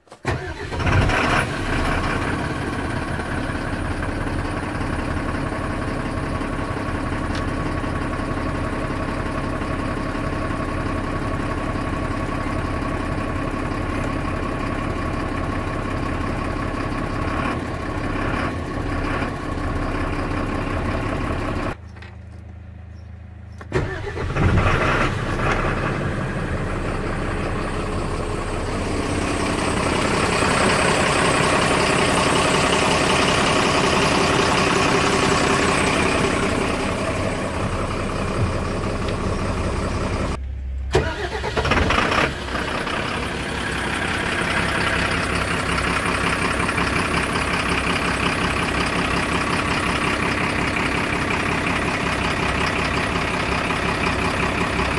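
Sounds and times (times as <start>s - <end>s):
diesel engine starting and idling: 0.0s - 54.9s.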